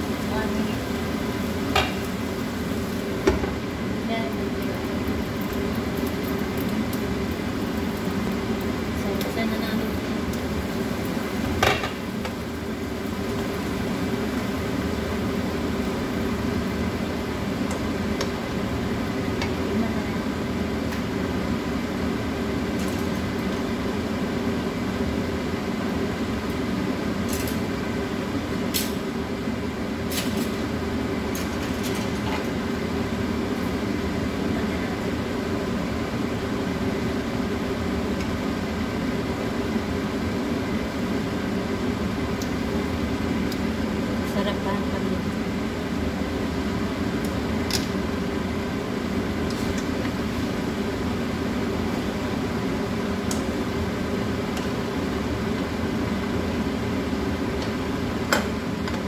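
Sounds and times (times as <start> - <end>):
food sizzling in pan: 0.0 - 59.0.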